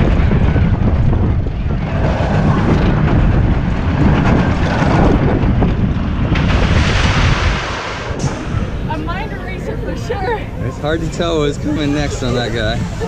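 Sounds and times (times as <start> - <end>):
roller coaster rumbling and rattling: 0.0 - 13.0
wind rushing over microphone: 0.0 - 13.0.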